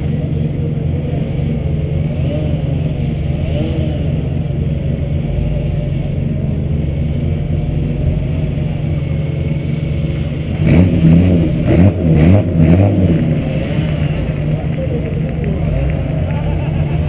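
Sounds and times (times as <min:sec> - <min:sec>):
car engine idling: 0:00.0 - 0:17.0
engine revving: 0:00.0 - 0:17.0.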